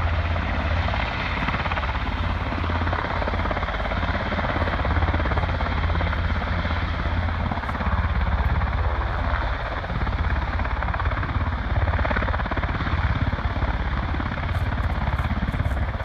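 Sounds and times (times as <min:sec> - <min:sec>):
helicopter engine and turbine hum: 0:00.0 - 0:16.0
helicopter rotor blades chopping: 0:00.0 - 0:16.0.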